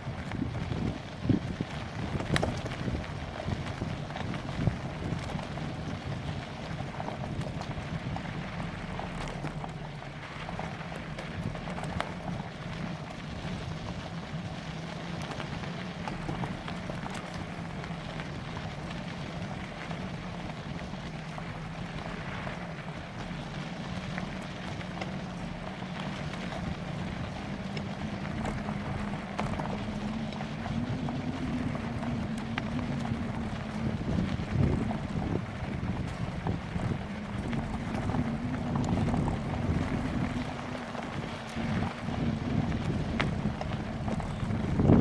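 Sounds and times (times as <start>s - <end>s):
bicycle tyres rolling: 0.0s - 45.0s
low hum: 0.0s - 45.0s
wind on microphone: 0.0s - 45.0s.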